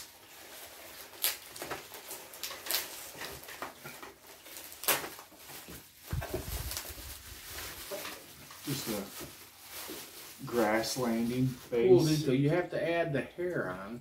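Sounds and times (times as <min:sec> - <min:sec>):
bubble wrap rustling: 0:00.0 - 0:12.6.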